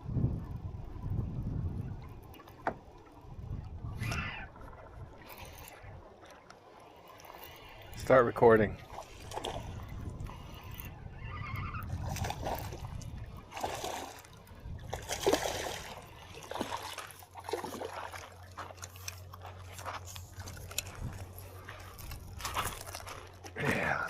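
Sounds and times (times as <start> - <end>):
wind rumble on microphone: 0.0 - 6.2, 7.8 - 17.0, 19.8 - 23.9
steady low hum: 0.0 - 24.0
water splashing and sloshing: 0.6 - 24.0.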